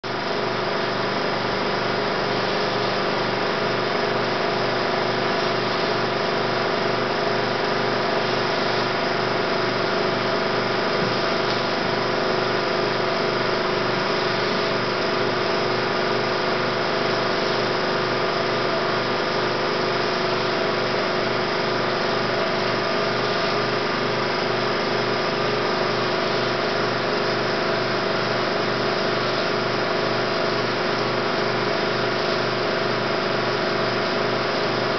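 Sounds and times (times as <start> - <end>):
film projector motor whirring: 0.1 - 34.9.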